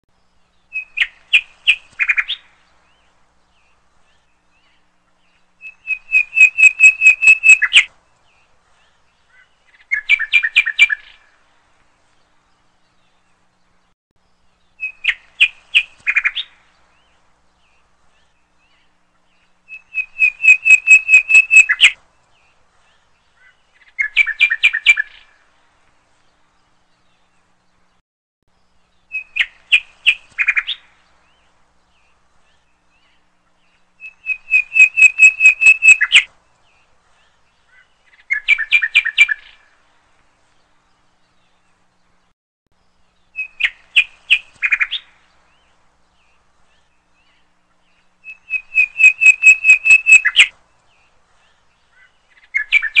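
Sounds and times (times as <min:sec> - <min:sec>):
bird song with high trilled chirps: 0:00.2 - 0:11.3, 0:12.2 - 0:25.4, 0:26.4 - 0:39.8, 0:40.5 - 0:53.0.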